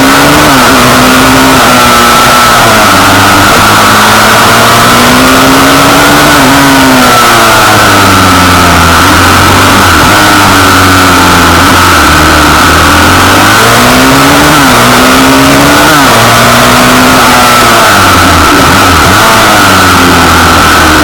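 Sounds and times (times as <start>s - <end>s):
pit bike engines revving: 0.0s - 21.0s.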